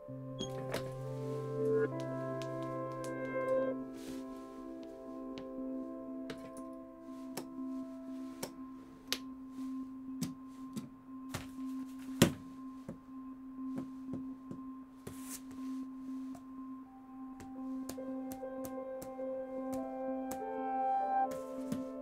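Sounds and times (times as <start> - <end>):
soft musical notes: 0.0 - 22.0.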